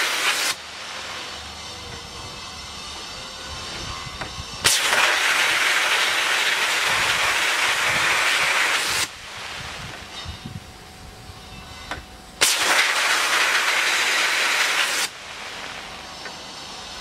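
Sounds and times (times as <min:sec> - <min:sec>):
faint air hiss: 0:00.0 - 0:17.0
sandblaster hissing on metal: 0:00.0 - 0:17.0.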